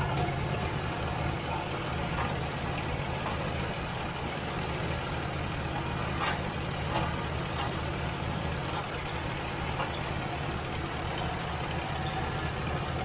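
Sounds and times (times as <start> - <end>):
drilling rig engine running: 0.0 - 13.0.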